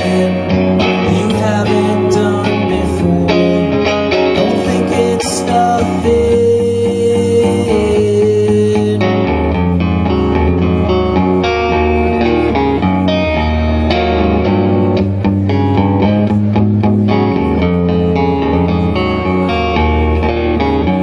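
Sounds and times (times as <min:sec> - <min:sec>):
electric guitar playing: 0:00.0 - 0:21.0.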